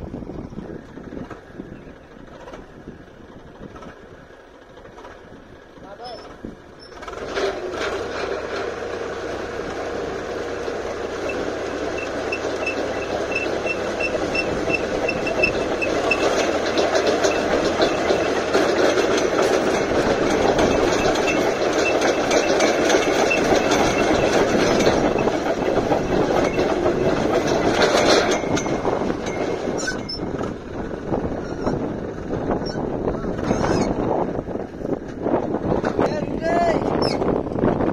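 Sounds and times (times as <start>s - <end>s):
tractor engine running: 0.0s - 37.9s
earth auger grinding into soil: 6.1s - 37.9s.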